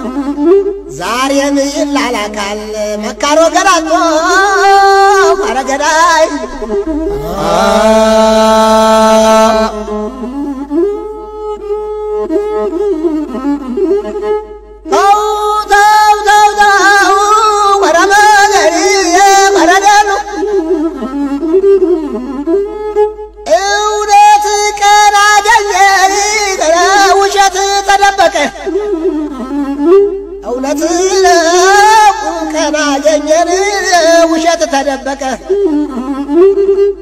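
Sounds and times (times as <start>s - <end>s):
instrumental folk melody: 0.0s - 1.9s, 3.8s - 37.0s.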